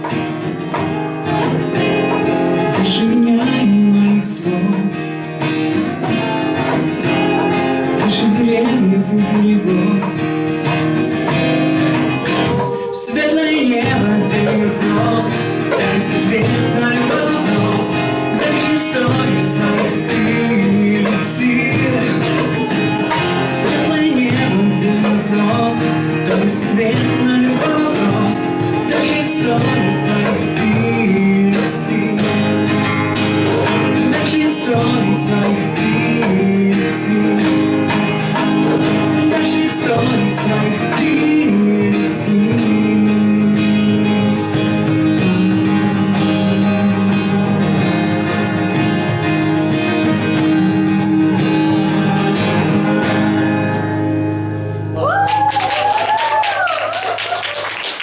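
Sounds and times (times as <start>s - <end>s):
strummed acoustic guitar: 0.0s - 55.0s.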